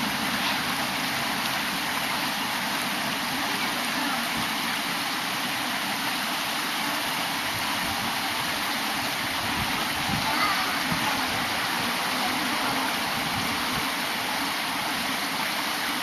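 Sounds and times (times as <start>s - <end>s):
stream flowing water: 0.0s - 16.0s.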